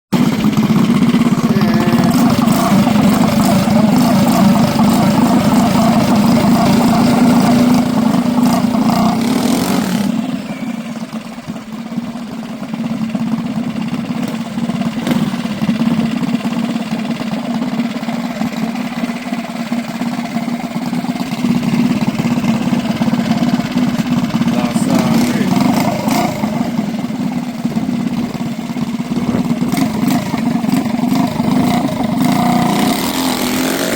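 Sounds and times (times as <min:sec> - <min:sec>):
minibike engine running: 0:00.2 - 0:33.9.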